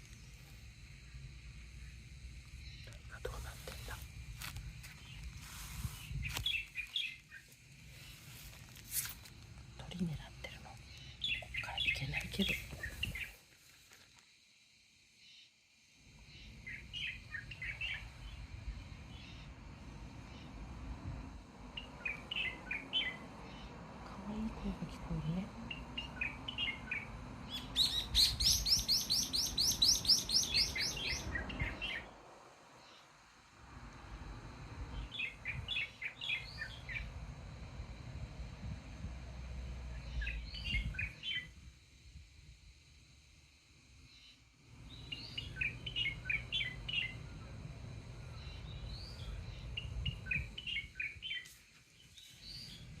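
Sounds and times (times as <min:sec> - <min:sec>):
songbird singing: 0:00.0 - 0:14.2, 0:15.1 - 0:42.0, 0:43.8 - 0:53.0.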